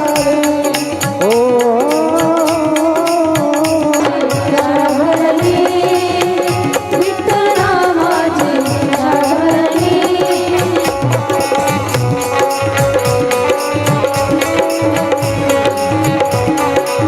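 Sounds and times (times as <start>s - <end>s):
devotional melody: 0.0s - 17.0s
steady drum beat: 0.0s - 17.0s.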